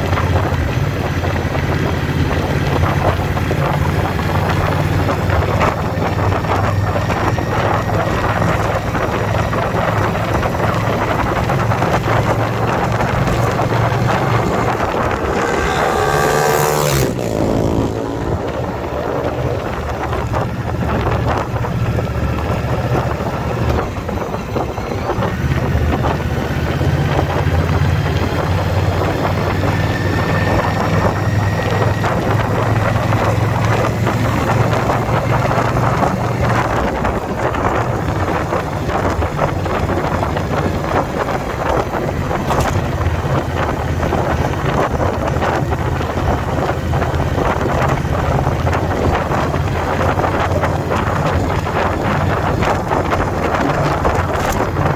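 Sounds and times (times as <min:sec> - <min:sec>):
motorcycle engine cruising: 0:00.0 - 0:54.9
wind buffeting microphone: 0:00.0 - 0:54.9.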